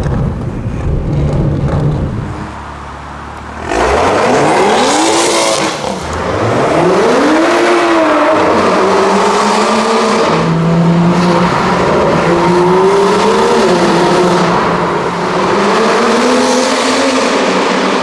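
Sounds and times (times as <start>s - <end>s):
car engine revving: 1.1s - 18.0s.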